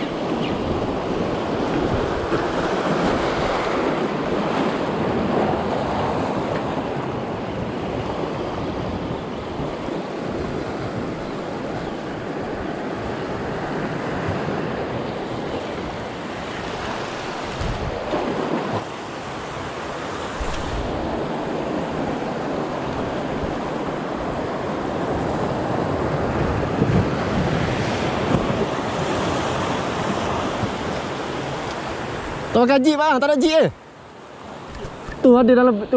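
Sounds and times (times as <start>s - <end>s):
wind buffeting microphone: 0.0s - 18.9s, 19.5s - 32.6s
sea waves washing: 0.0s - 35.9s.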